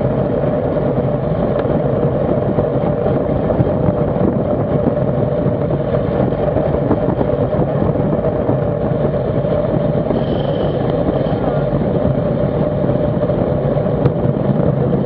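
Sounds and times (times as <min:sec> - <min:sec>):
loud wind rush over microphone: 0:00.0 - 0:15.0.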